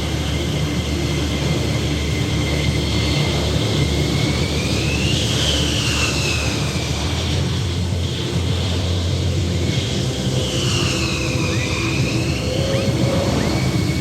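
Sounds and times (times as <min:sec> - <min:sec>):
high jet whine: 0:00.0 - 0:14.0
jet engine noise: 0:00.0 - 0:14.0.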